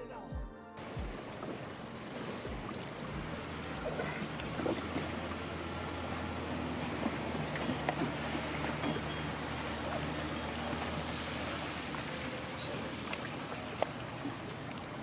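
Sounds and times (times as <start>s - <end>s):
low motor hum: 0.8s - 15.0s
water noise: 0.8s - 15.0s.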